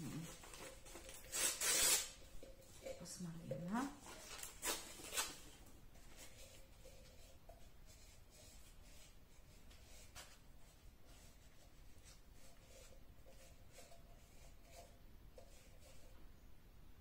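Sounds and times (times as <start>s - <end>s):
tissue paper rustling on metal can: 0.0s - 16.1s.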